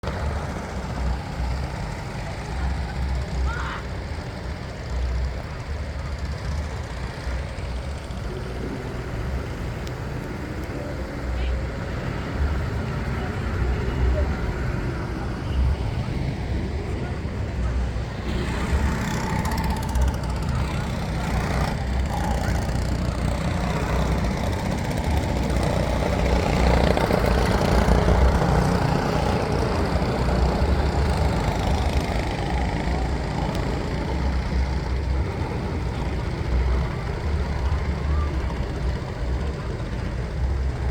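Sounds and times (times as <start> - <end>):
go-kart engine running: 0.0 - 40.9.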